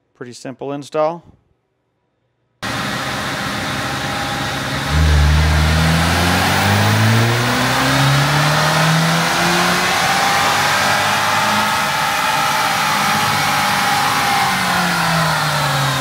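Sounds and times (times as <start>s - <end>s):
car engine revving: 2.6s - 16.0s.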